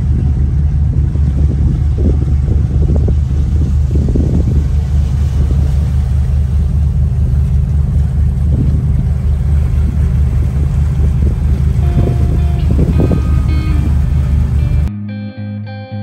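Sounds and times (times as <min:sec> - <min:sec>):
motorboat engines rumbling: 0:00.0 - 0:14.9.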